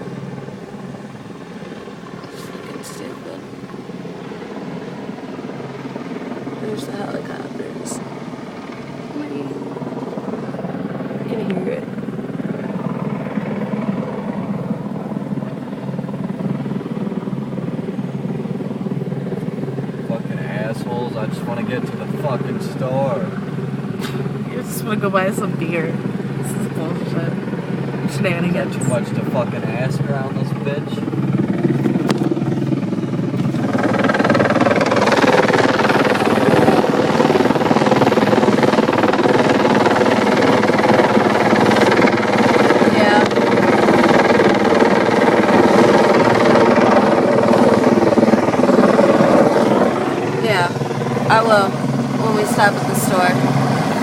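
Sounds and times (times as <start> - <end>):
helicopter rotor chopping: 0.0 - 54.0.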